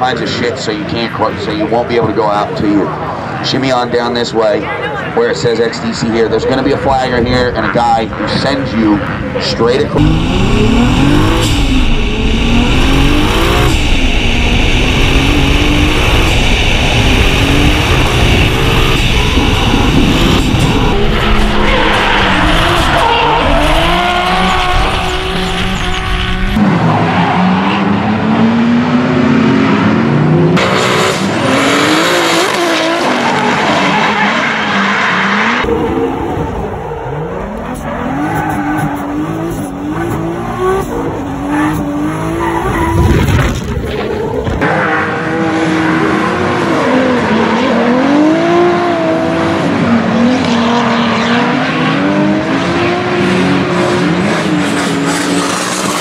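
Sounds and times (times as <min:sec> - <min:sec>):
car engine revving: 0:05.9 - 0:56.0.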